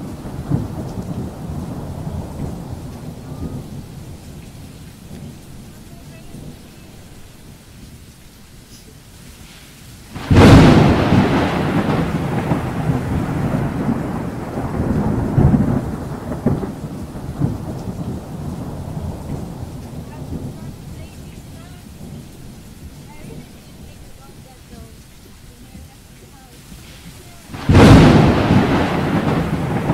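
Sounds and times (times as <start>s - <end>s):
thunder crack and rumble: 0.0s - 7.6s, 10.1s - 26.0s, 26.8s - 29.9s
rain on a windshield: 0.0s - 29.9s.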